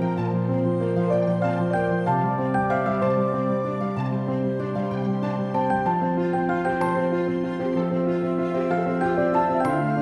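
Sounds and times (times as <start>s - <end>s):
slow gentle instrumental music: 0.0s - 10.0s.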